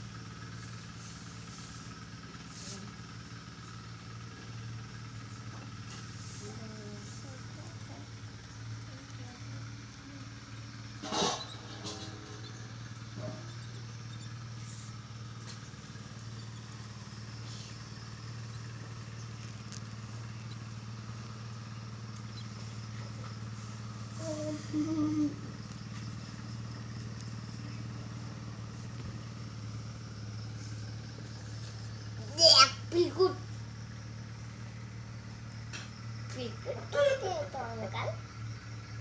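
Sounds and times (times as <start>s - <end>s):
low motor hum: 0.0s - 39.0s.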